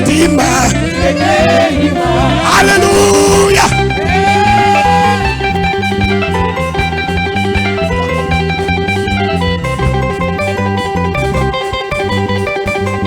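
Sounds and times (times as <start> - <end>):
bass line: 0.0 - 13.0
guitar picking short notes: 0.0 - 13.0
live band playing: 0.0 - 13.0.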